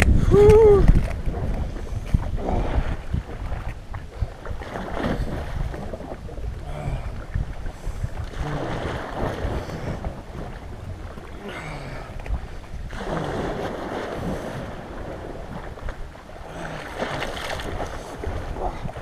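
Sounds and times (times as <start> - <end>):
sea waves washing over rocks: 0.0 - 19.0
wind buffeting microphone: 0.0 - 19.0.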